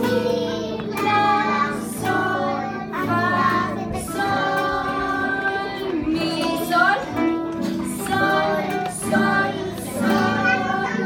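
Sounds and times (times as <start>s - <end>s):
children singing: 0.0s - 11.0s
strummed acoustic guitars: 0.0s - 11.0s.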